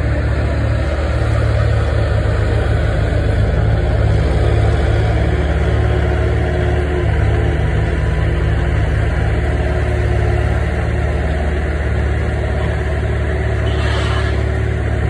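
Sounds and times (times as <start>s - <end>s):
loader diesel engine running: 0.0s - 15.0s.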